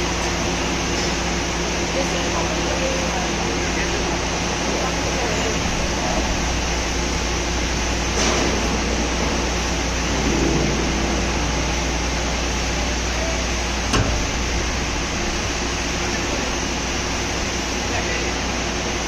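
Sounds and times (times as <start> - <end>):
drilling machine hum and whir: 0.0 - 19.0.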